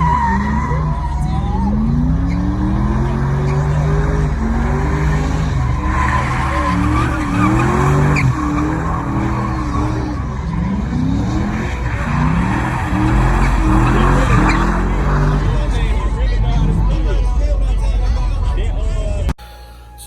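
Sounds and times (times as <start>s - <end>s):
car engine revving: 0.0s - 19.4s
tyres squealing: 0.0s - 20.0s.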